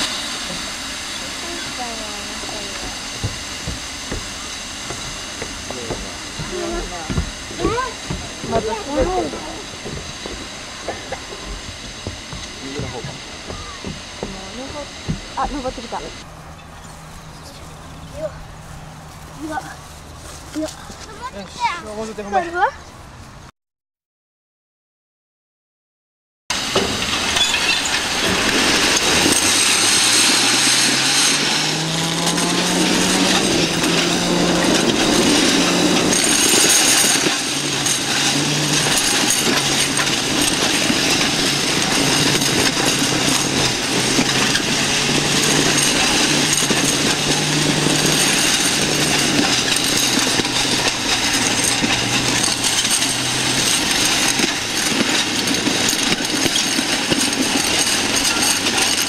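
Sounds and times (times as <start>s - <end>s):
metal rollers rattling: 1.2s - 18.6s, 26.6s - 59.0s.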